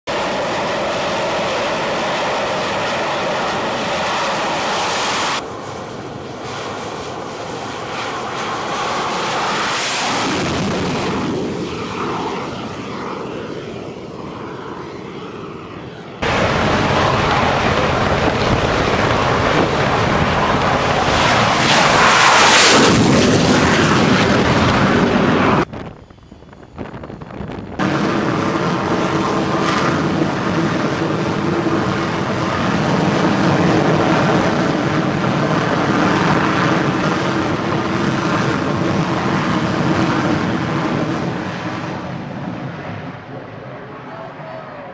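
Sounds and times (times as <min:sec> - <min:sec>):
jet engine noise: 0:00.0 - 0:44.9.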